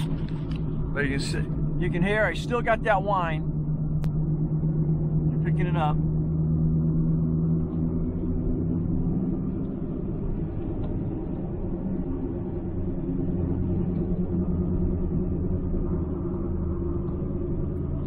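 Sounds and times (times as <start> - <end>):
car whining hum: 0.0 - 18.0
road noise: 0.0 - 18.0.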